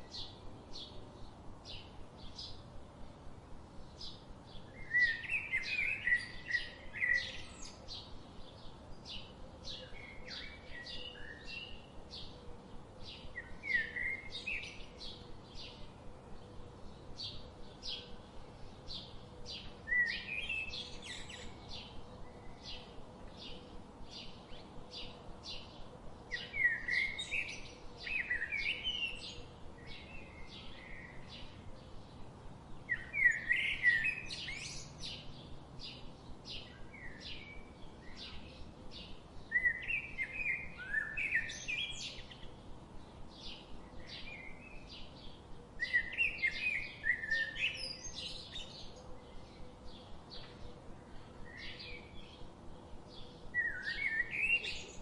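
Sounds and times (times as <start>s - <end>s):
songbird warbled song: 0.0s - 55.0s.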